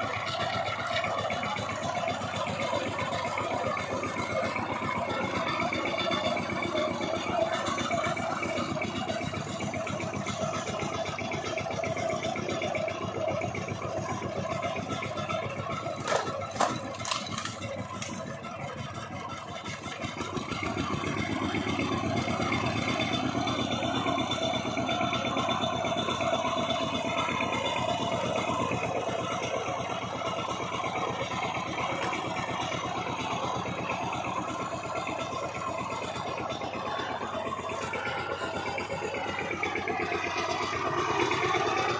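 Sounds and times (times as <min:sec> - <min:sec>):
tiller engine clattering: 0:00.0 - 0:41.9.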